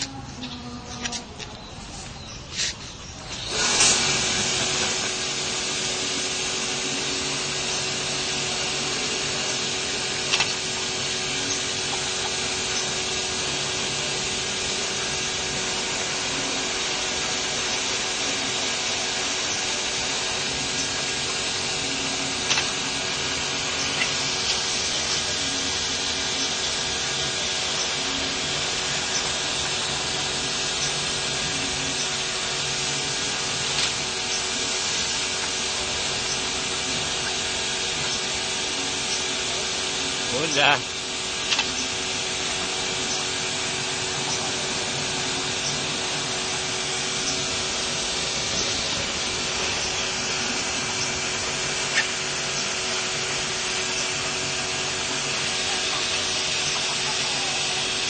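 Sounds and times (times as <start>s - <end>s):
machine running with hiss and hum: 0.0s - 58.0s.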